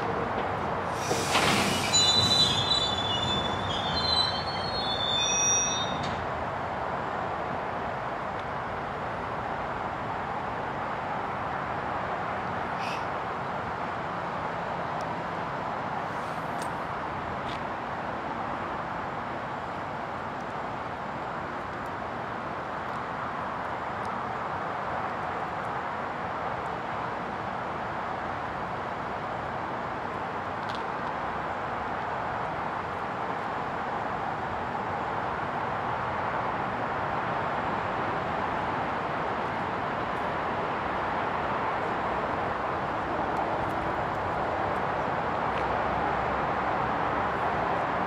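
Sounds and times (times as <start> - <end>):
vehicle rumble and hiss: 0.0 - 48.0.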